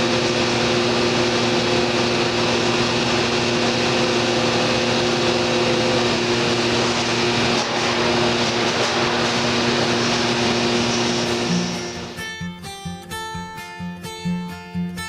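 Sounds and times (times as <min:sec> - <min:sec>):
cnc router running: 0:00.0 - 0:12.2.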